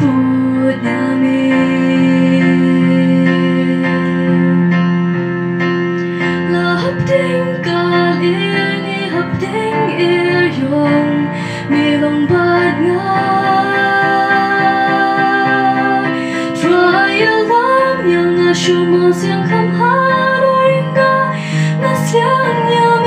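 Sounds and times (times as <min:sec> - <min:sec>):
woman singing gospel song: 0:00.0 - 0:04.6, 0:06.5 - 0:23.0
electronic keyboard chords: 0:00.0 - 0:23.0.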